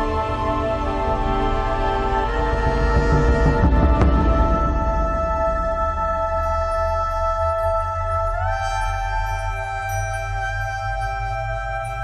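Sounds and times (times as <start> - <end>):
low bass: 0.0 - 12.0.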